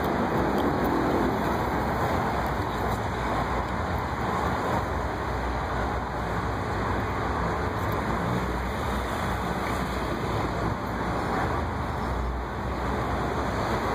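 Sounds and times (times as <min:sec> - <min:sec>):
city traffic rumble: 0:00.0 - 0:13.9.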